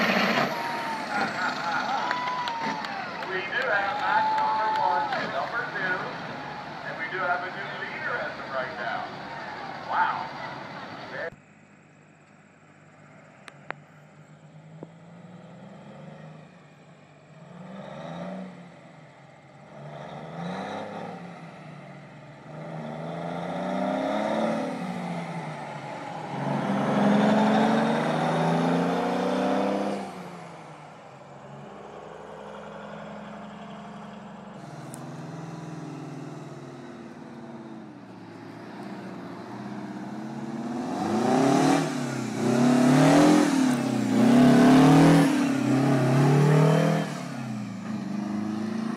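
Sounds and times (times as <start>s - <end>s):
second truck engine: 0.0s - 48.9s
truck diesel engine accelerating: 0.0s - 48.9s.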